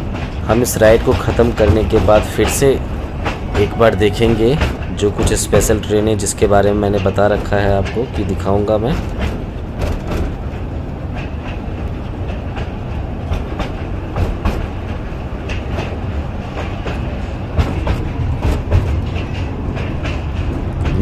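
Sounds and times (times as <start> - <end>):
small train rumbling on track: 0.0 - 21.0
train wheels clicking: 0.0 - 21.0.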